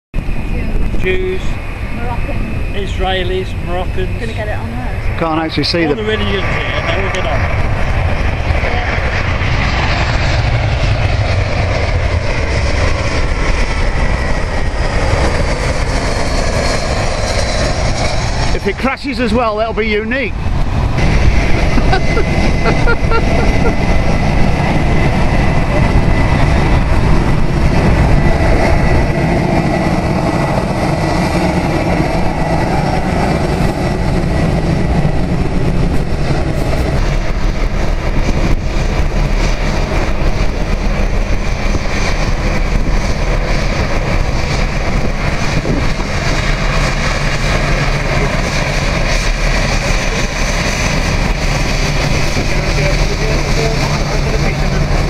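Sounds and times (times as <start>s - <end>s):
jet engines roaring: 0.2s - 55.0s.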